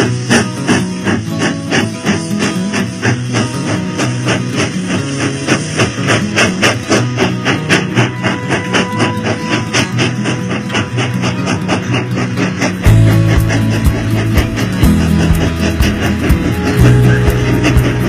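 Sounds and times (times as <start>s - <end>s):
background music with plucked guitar: 0.0s - 18.0s.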